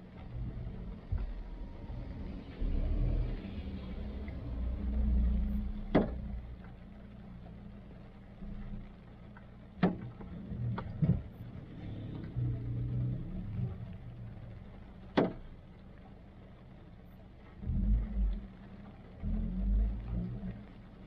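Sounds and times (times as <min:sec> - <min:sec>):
car engine idling: 0:00.0 - 0:21.0
raindrops tapping on car: 0:00.0 - 0:21.0.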